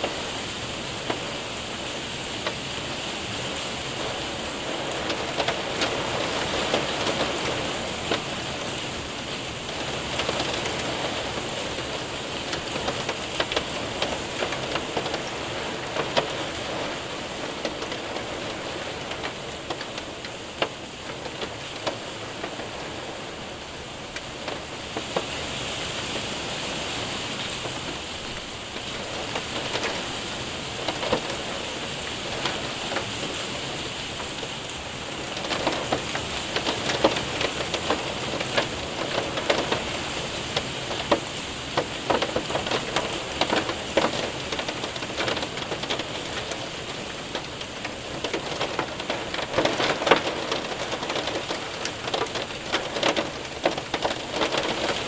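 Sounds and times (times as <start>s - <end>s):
hailstones ticking on window: 0.0s - 55.0s
rain hiss: 0.0s - 55.0s.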